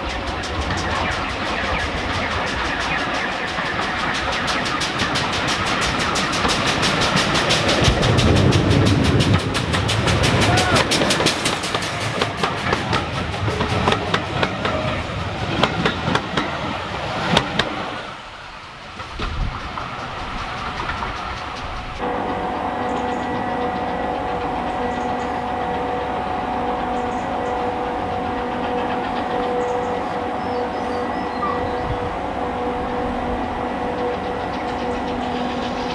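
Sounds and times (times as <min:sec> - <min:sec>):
held train tones: 0:00.0 - 0:35.9
train running rumble: 0:00.0 - 0:35.9
train wheels clicking: 0:00.0 - 0:35.9.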